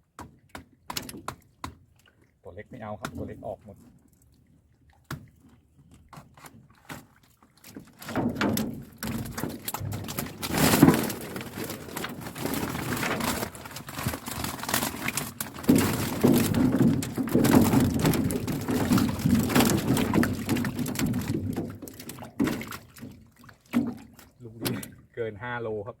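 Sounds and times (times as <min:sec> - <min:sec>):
fish flapping in water: 0:03.0 - 0:25.1.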